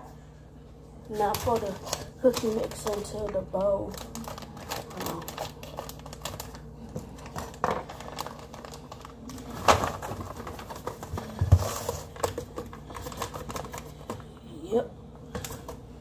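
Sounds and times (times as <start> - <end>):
paper pouch crinkling: 1.2 - 14.2.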